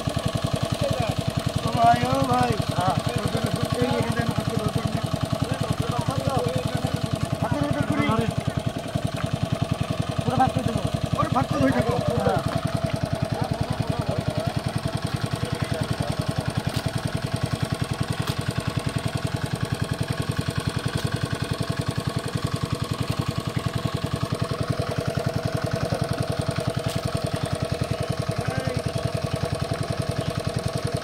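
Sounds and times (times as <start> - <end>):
small engine knocking: 0.0 - 31.0.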